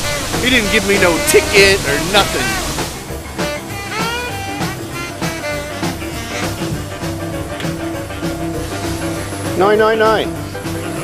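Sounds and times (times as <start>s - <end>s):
drum kit steady beat: 0.0s - 11.0s
up-tempo blues swing song: 0.0s - 11.0s.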